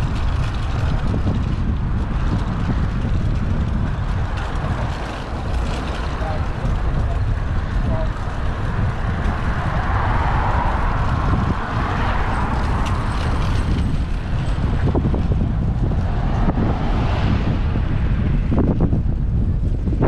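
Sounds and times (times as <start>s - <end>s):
road traffic passing: 0.0s - 20.0s
wind buffeting microphone: 0.0s - 20.0s.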